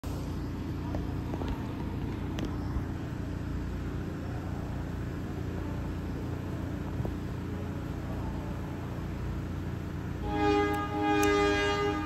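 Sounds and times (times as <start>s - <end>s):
rail cars rumbling and humming: 0.0s - 12.0s.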